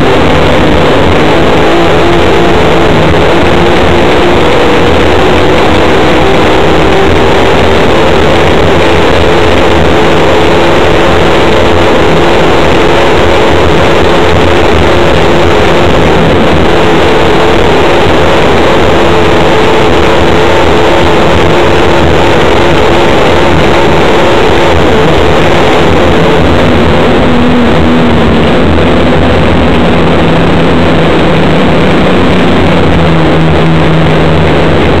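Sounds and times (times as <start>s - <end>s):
boat engine running hard: 0.0s - 35.0s
rush of wind and water: 0.0s - 35.0s.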